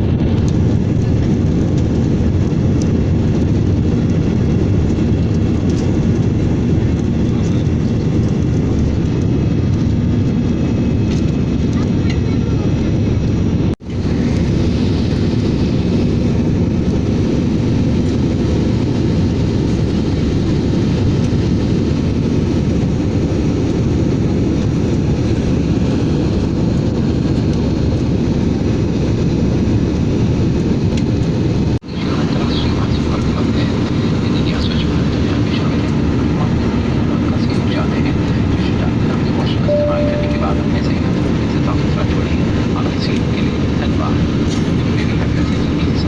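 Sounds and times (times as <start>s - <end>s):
airliner cabin engine rumble: 0.0s - 46.0s.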